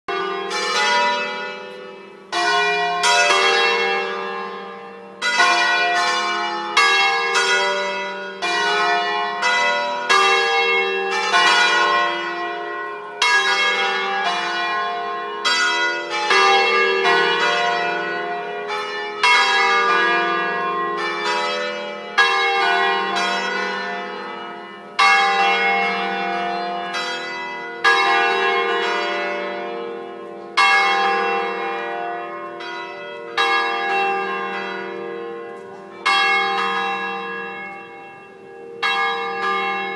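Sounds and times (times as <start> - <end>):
church bells ringing: 0.1 - 39.9.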